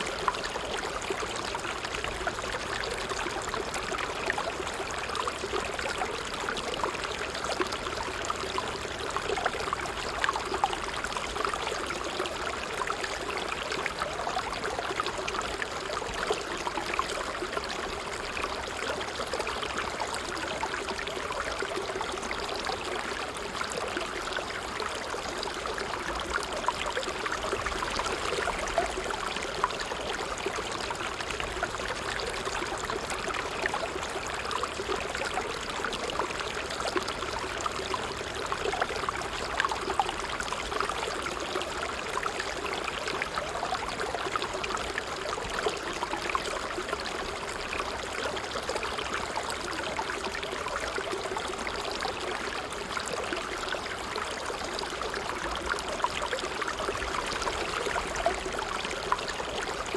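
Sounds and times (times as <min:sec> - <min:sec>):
water trickling and burbling: 0:00.0 - 0:59.9.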